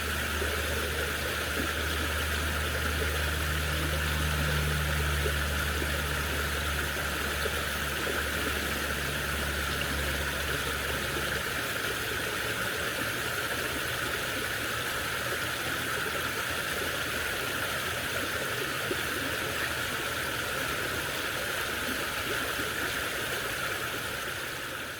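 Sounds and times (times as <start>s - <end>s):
low mechanical hum: 0.0s - 24.9s
stream water rushing: 0.0s - 24.9s.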